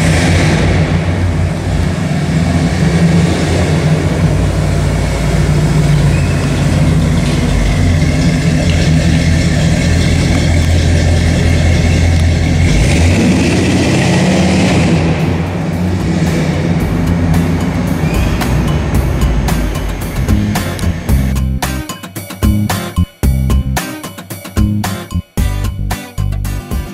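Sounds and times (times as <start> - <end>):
truck engine running at low revs: 0.0 - 21.8.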